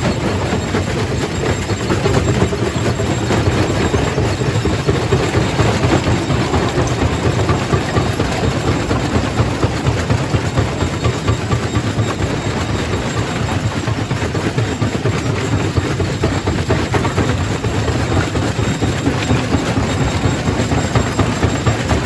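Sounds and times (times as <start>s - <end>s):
rock crusher machine hum: 0.0s - 22.0s.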